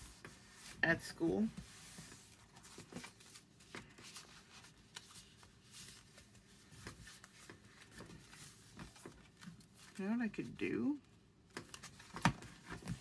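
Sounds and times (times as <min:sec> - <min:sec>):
paper rustling: 0:00.0 - 0:10.2, 0:11.5 - 0:13.0.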